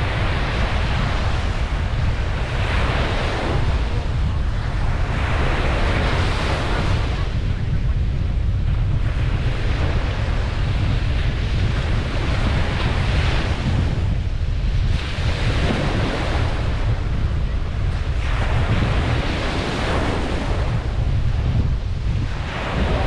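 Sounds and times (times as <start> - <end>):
ocean waves breaking on beach: 0.0 - 23.0
wind rumble on microphone: 0.0 - 23.0.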